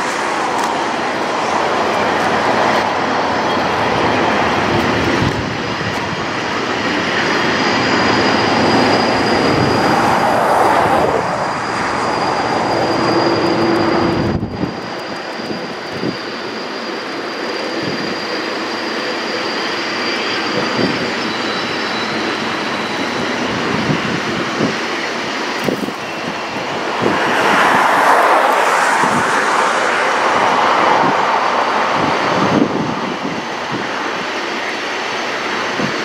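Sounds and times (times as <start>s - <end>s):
freight train wheels rumbling on rail: 0.0s - 36.0s.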